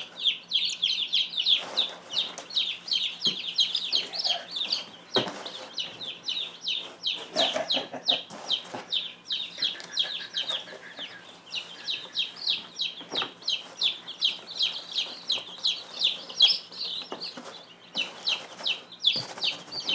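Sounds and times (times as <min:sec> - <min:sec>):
chicks peeping: 0:00.0 - 0:19.9.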